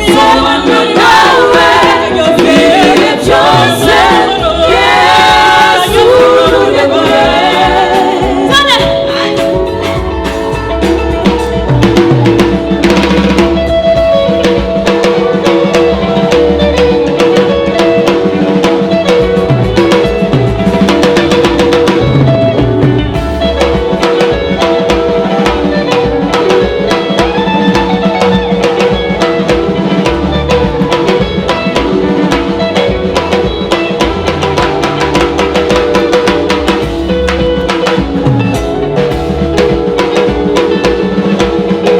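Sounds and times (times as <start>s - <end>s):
drum kit beat: 0.0s - 41.9s
sustained instrumental chords: 0.0s - 41.9s.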